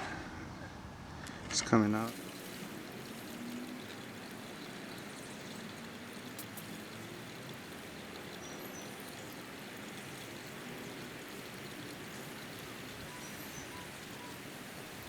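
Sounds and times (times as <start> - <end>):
fluid trickling from valve: 1.8 - 15.0.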